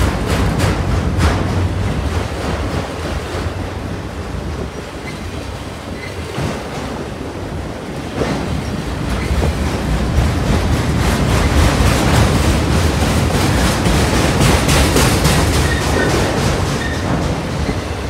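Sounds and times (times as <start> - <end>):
freight train rolling past: 0.0 - 18.0
train clanks: 0.0 - 18.0.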